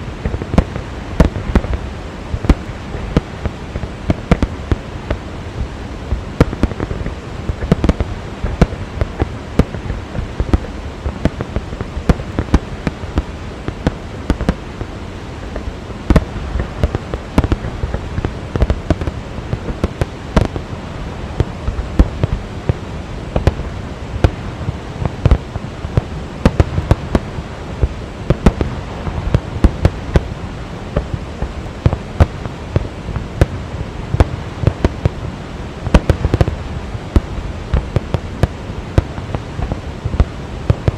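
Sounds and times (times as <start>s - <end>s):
fireworks bangs: 0.0s - 40.9s
steady rushing background: 0.0s - 40.9s.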